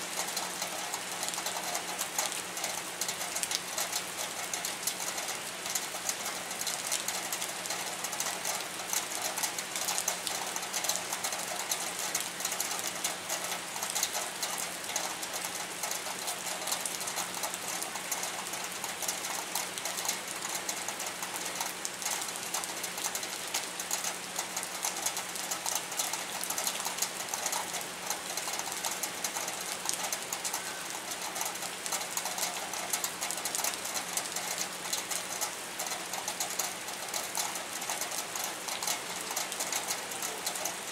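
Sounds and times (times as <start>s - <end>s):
rain pattering on hard surfaces: 0.0s - 40.9s.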